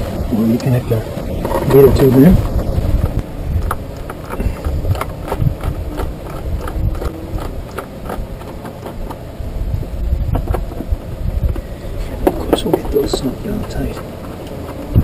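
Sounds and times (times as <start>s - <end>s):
low rumble: 0.0s - 14.2s.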